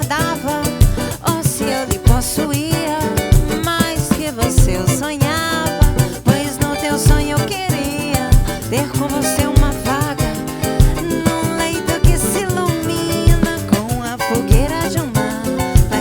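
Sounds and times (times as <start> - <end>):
samba band playing: 0.0 - 16.0.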